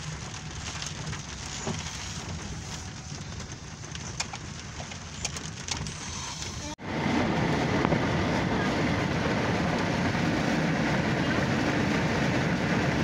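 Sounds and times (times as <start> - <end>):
road and wind noise in rain: 0.0 - 13.0.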